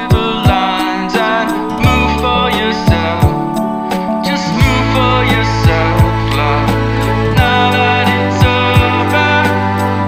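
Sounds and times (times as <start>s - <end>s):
song with bass and drum beat: 0.0s - 10.0s.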